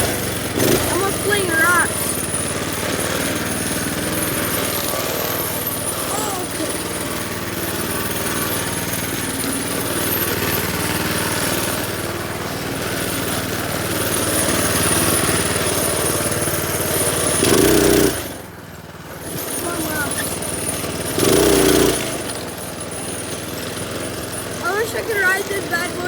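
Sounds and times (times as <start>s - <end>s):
small minibike engine running: 0.0s - 26.0s.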